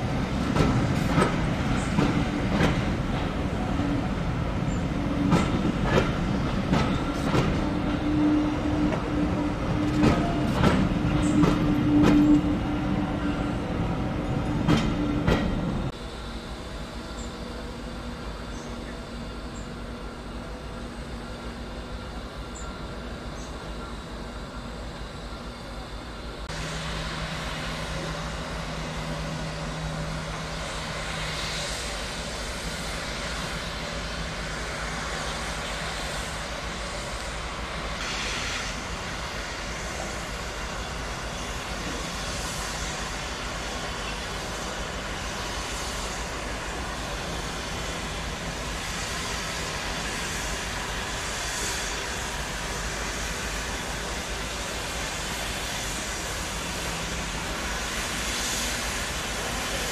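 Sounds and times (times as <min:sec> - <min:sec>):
train rushing past: 0:00.0 - 0:23.5, 0:25.9 - 0:59.9.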